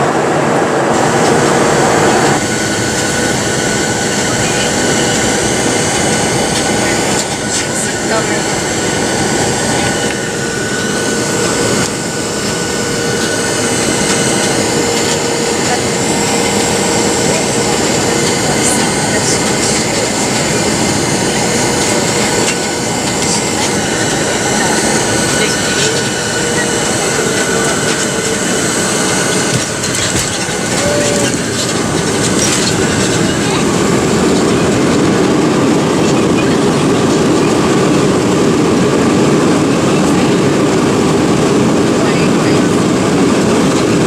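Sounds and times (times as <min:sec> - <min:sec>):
jet engines and airflow rushing: 0:00.0 - 0:44.0.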